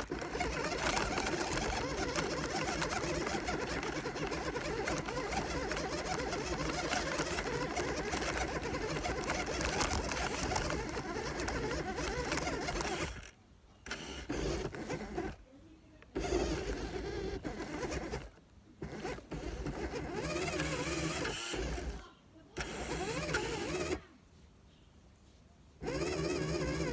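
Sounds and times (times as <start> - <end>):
toy car motor whirring: 0.0 - 15.4, 16.1 - 24.1, 25.8 - 26.9.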